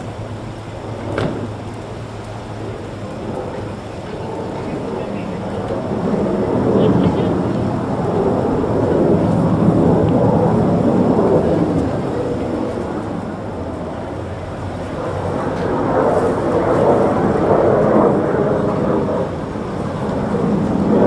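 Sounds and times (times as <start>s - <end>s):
military aircraft rumble: 0.0s - 21.0s.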